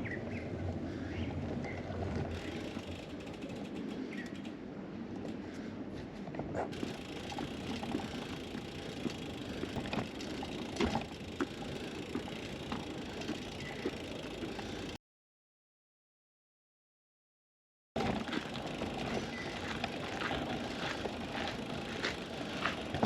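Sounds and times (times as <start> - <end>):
bicycle rolling: 0.0 - 15.0, 18.0 - 23.0
bicycle clicks and rattles: 0.6 - 5.6, 6.3 - 15.0, 18.0 - 23.0.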